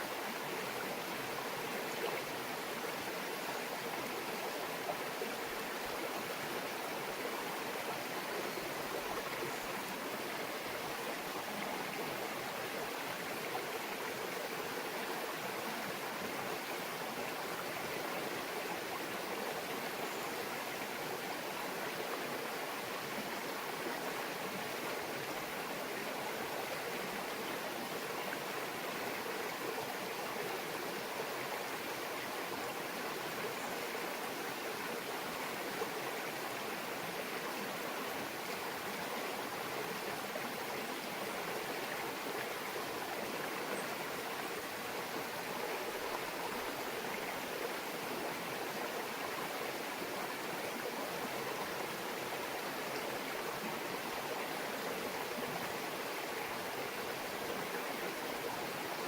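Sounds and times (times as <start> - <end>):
mountain brook babbling: 0.0 - 59.0.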